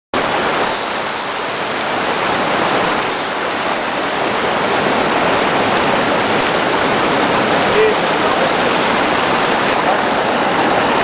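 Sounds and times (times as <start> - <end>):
fast-flowing river rushing: 0.1 - 11.0.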